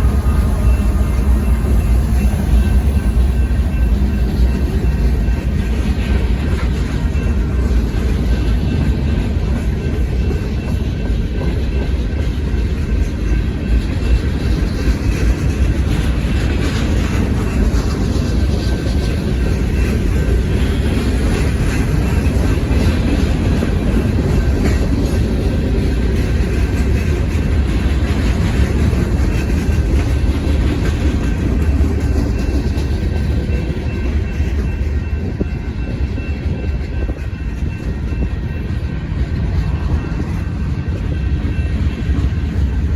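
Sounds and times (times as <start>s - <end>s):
freight train rumbling past: 0.0s - 42.9s.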